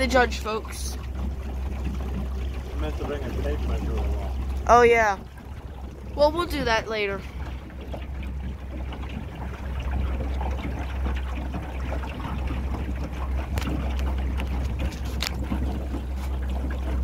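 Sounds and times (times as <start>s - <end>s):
boat engine rumble: 0.0s - 17.0s
wind: 0.0s - 17.0s.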